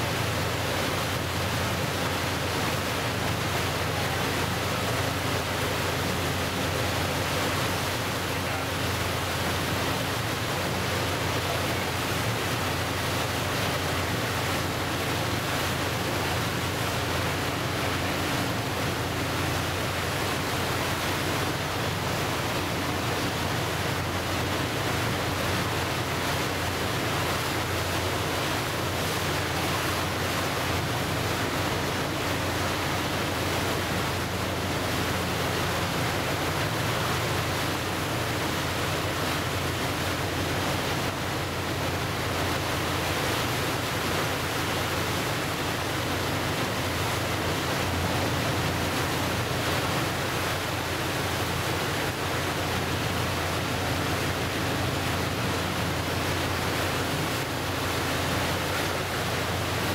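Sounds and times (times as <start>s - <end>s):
waves splashing at shoreline: 0.0s - 59.9s.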